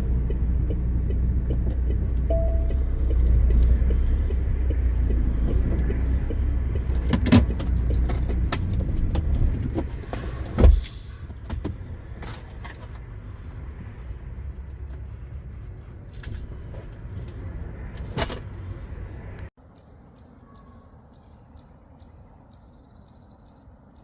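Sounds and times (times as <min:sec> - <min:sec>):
truck diesel engine running: 0:00.0 - 0:19.5.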